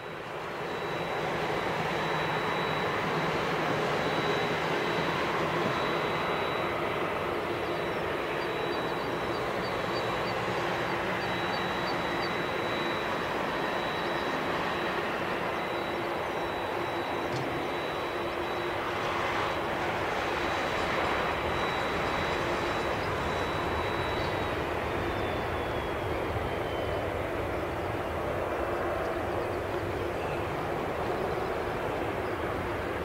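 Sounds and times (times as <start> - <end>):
jet engine rushing noise: 0.0 - 33.0.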